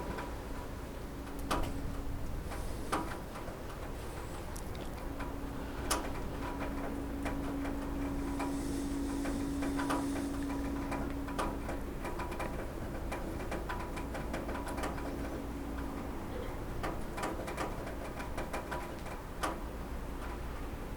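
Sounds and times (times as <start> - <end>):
rain dripping on a roof: 0.0 - 20.9
steady low hum: 0.0 - 20.9.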